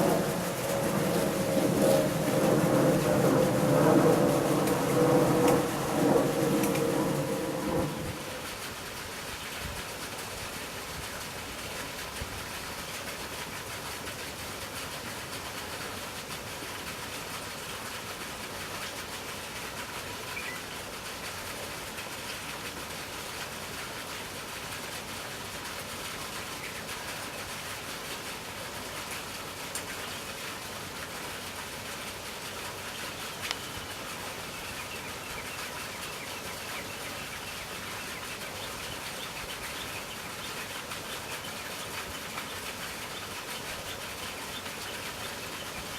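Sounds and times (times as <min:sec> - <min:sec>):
steady outdoor hiss: 0:00.0 - 0:45.9.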